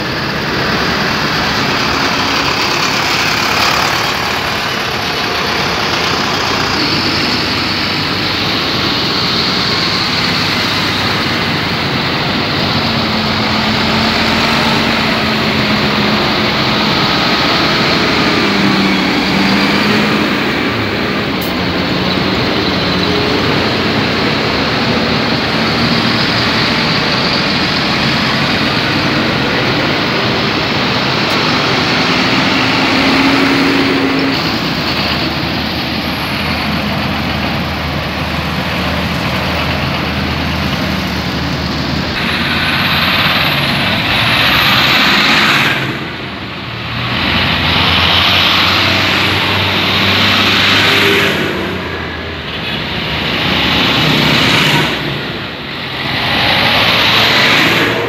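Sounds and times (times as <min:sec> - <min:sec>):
tractor diesel engines under load: 0:00.0 - 0:58.0
tyre noise on wet road: 0:00.0 - 0:58.0.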